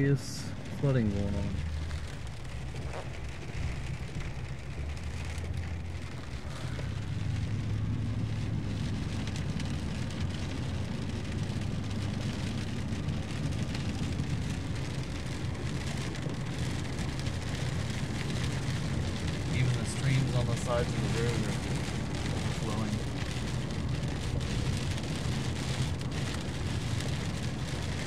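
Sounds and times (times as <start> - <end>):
car driving on wet road: 0.0 - 28.0
rain hitting car glass: 0.0 - 28.0.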